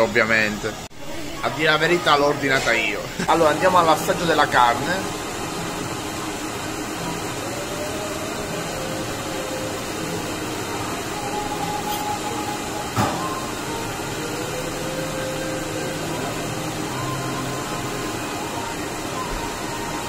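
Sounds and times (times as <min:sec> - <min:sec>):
restaurant hiss and hum: 0:00.0 - 0:20.0.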